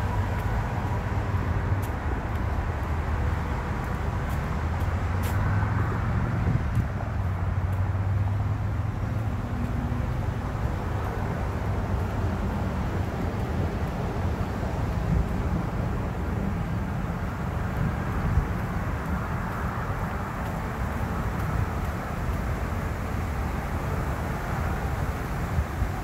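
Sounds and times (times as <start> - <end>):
distant road traffic rumble: 0.0 - 26.0.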